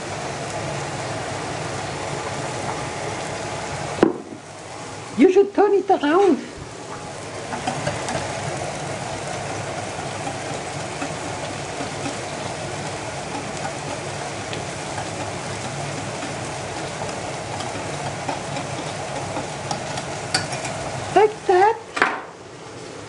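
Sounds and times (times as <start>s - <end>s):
meatballs sizzling in a pan: 0.0s - 21.9s.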